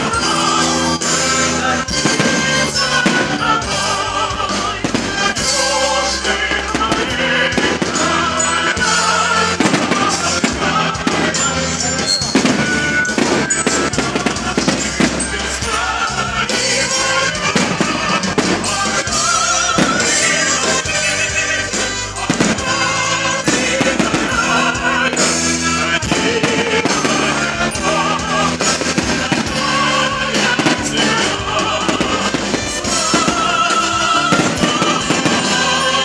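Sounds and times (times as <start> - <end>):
fireworks bursting: 0.0 - 36.0
music with choir singing: 0.0 - 36.0.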